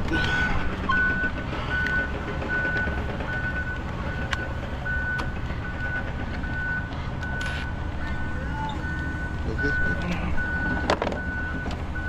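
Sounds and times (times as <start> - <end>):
low engine rumble: 0.0 - 12.0
backup alarm beeping: 0.9 - 12.0.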